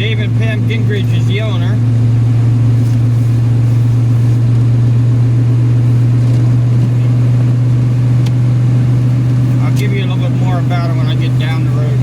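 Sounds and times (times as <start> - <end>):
car interior engine and road hum: 0.0 - 12.0.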